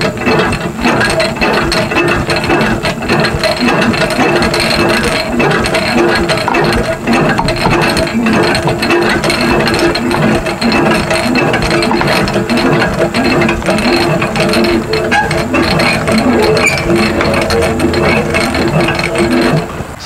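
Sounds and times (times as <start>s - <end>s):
hand crank gearbox clicking and grinding: 0.0s - 20.0s.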